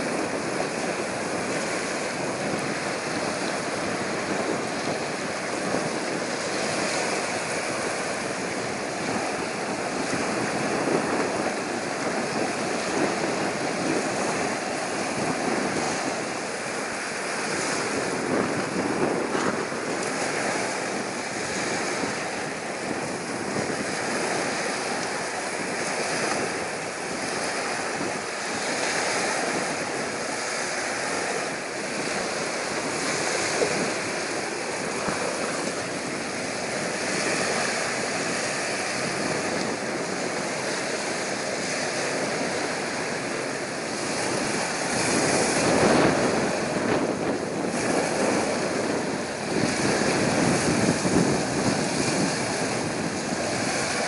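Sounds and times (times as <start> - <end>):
choppy waves: 0.0 - 54.0
wind blowing across microphone: 0.0 - 54.0.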